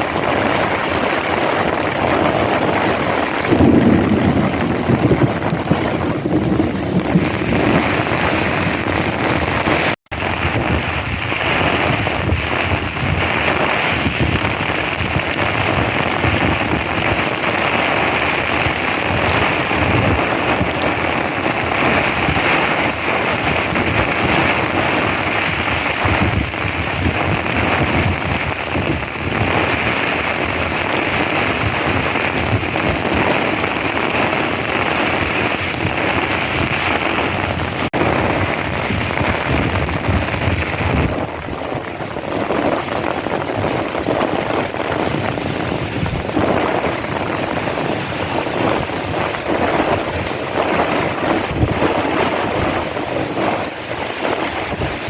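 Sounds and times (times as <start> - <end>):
heavy rain falling: 0.0 - 55.0
thunder rumbling: 0.0 - 55.0.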